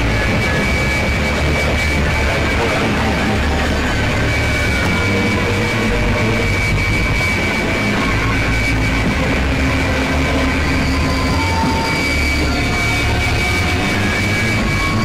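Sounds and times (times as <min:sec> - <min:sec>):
distorted noise music: 0:00.0 - 0:15.0
heavy low rumble: 0:00.0 - 0:15.0
steady high tone: 0:00.0 - 0:15.0.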